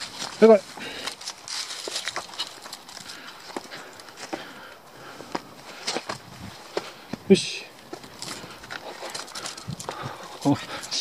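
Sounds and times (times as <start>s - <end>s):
footsteps on bare rock: 0.0s - 10.8s.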